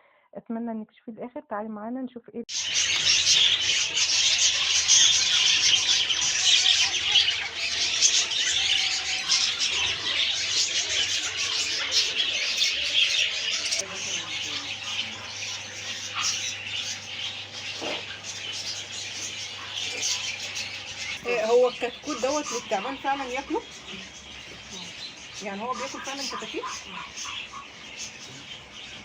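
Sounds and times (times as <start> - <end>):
caged birds chirping and squawking: 2.5 - 29.0.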